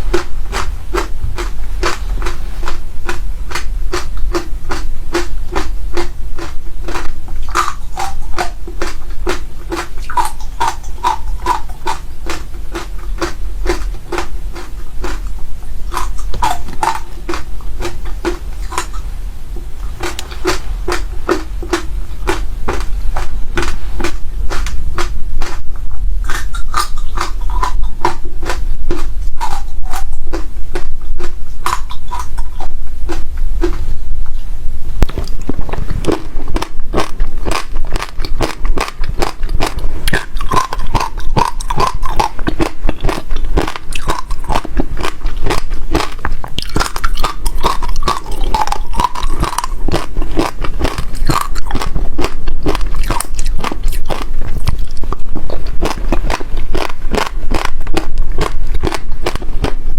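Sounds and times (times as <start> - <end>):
seeds crunching while chewed: 0.0 - 19.1, 19.8 - 34.4, 35.0 - 59.8.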